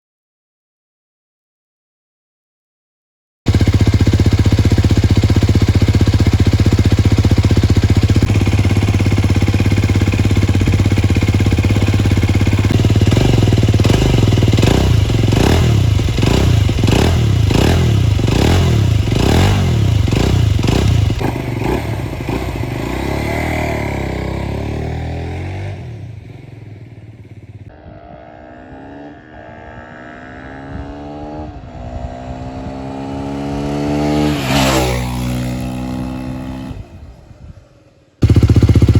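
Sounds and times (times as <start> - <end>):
motorcycle engine revving: 3.5 - 37.5, 38.2 - 38.9.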